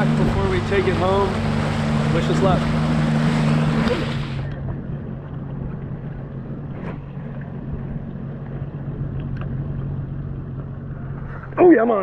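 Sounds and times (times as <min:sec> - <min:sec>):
water churning: 0:00.0 - 0:12.0
watercraft engine drone: 0:00.0 - 0:12.0.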